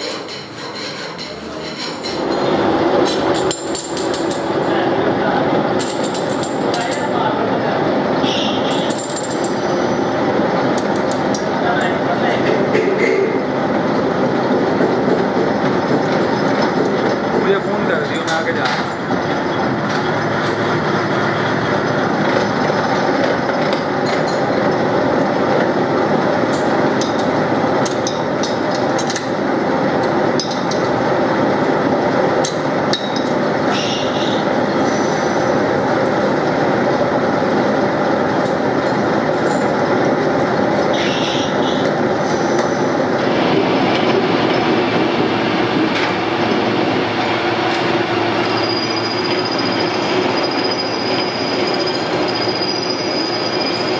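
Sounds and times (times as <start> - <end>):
metalworking machinery running: 0.0 - 53.9.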